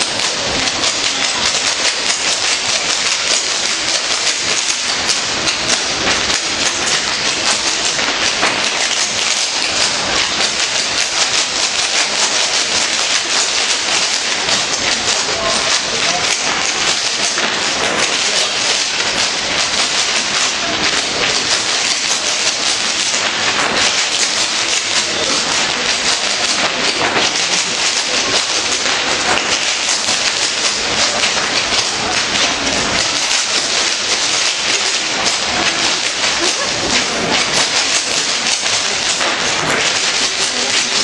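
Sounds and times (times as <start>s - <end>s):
hard shoes clattering on stone: 0.0s - 41.0s.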